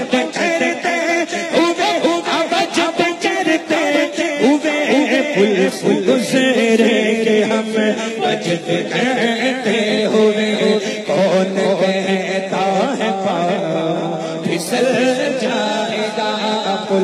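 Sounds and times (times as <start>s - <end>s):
voices singing devotional song: 0.0s - 17.0s.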